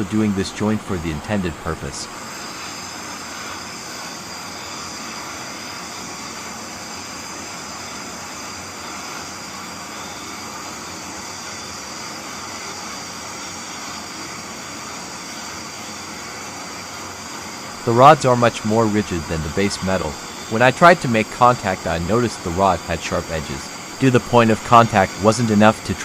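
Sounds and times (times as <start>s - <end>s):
torch flame hissing: 0.0s - 26.0s.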